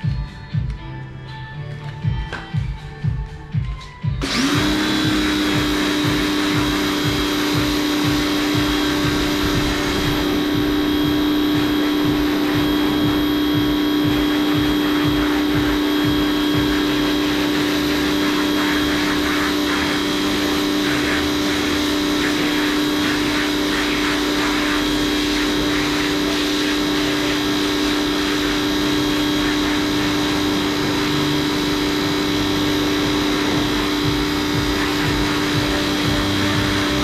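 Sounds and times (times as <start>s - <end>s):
small electric machine humming: 4.2s - 37.0s.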